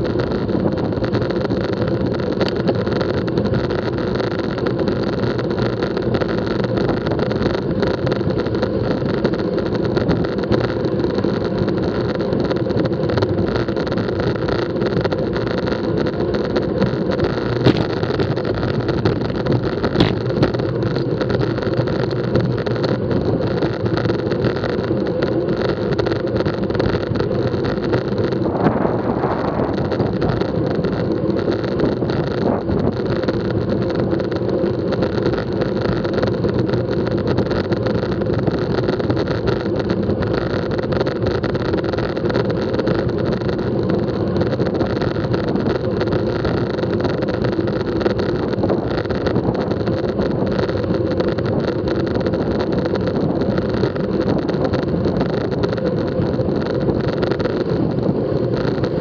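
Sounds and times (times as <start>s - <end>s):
bike tyres humming on concrete: 0.0s - 59.0s
wind across microphone: 0.0s - 59.0s.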